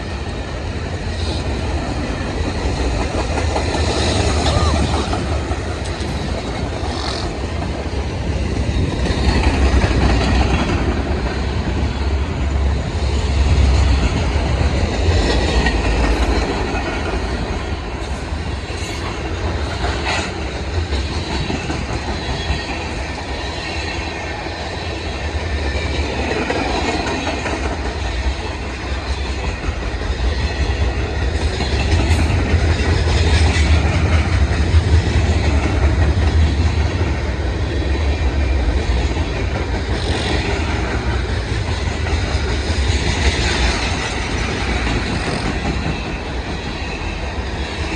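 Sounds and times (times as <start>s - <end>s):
steel wheels rumbling on rail: 0.0s - 47.9s.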